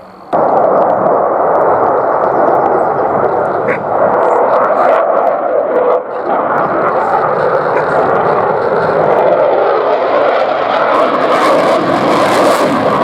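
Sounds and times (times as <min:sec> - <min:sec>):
loud crackling jet noise: 0:00.0 - 0:13.0.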